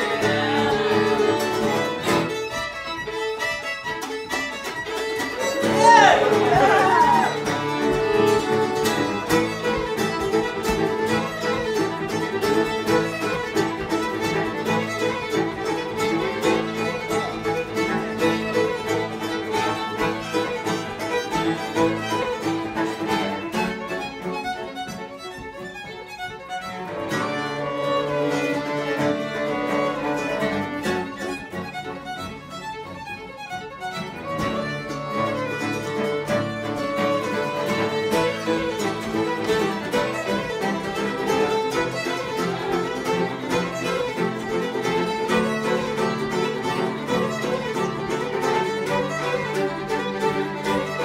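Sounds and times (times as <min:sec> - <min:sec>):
string band playing fiddle tune: 0:00.0 - 0:51.0.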